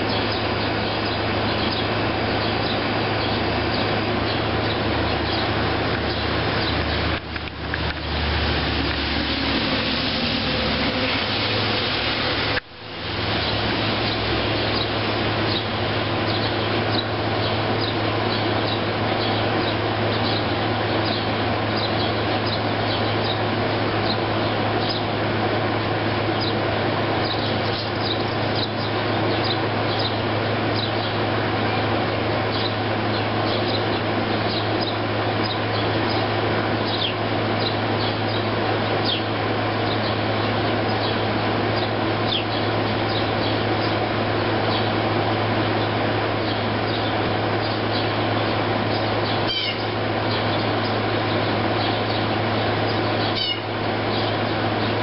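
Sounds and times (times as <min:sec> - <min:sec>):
sparrows chirping: 0:00.0 - 0:12.0, 0:13.2 - 0:55.0
air conditioner humming: 0:00.0 - 0:55.0.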